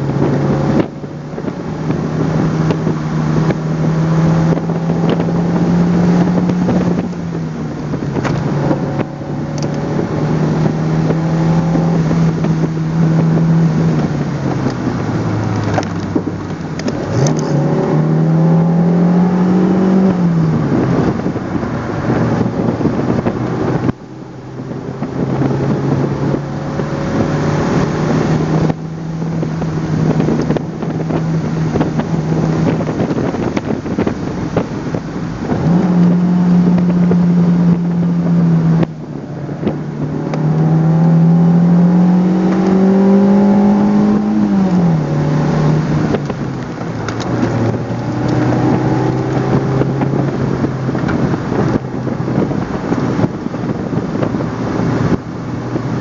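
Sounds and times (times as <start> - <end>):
car engine revving: 0.0 - 56.0
road and wind noise: 0.0 - 56.0.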